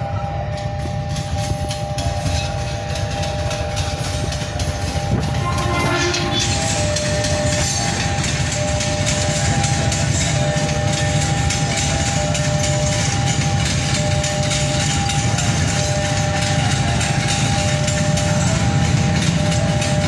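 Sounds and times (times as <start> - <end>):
electric train whine: 0.0 - 20.0
train wheels rumbling on rail: 0.0 - 20.0.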